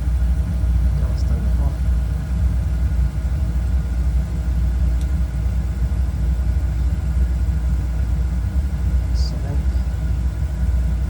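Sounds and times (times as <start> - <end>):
boiler burner rumbling: 0.0 - 11.0.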